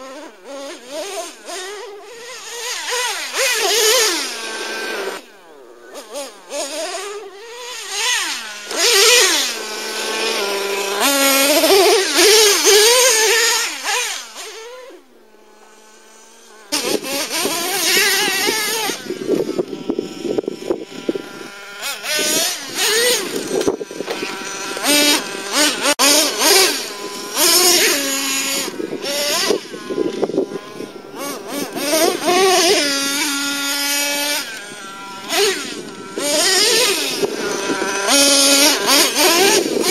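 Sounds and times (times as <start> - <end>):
rc truck engine revving: 0.0 - 39.9.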